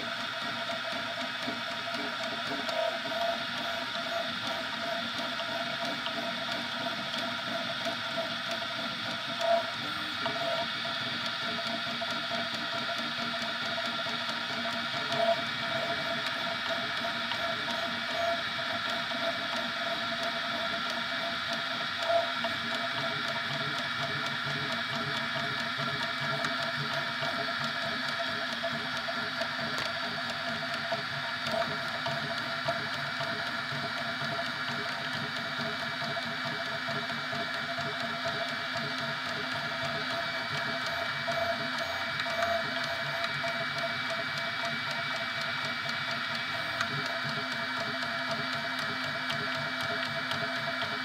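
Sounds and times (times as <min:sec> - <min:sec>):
three d printer motors whining: 0:00.0 - 0:51.0.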